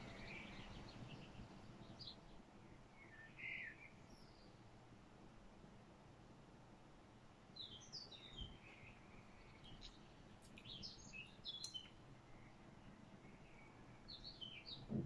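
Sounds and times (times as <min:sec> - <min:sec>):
faint bird chirps: 0:00.0 - 0:04.6, 0:07.6 - 0:15.0.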